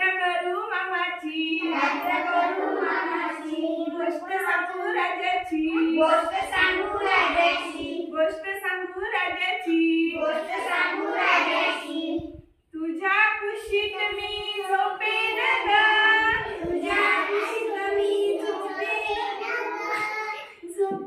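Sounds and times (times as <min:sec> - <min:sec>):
children and women singing: 0:01.2 - 0:08.5, 0:09.2 - 0:12.4, 0:13.0 - 0:21.0.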